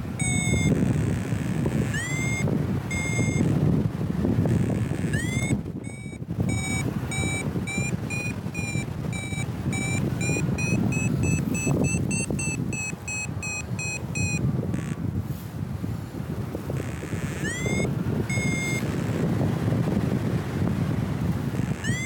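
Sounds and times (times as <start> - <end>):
variometer beeping: 0.0 - 15.1, 16.6 - 22.0
wind rumble on microphone: 0.0 - 22.0.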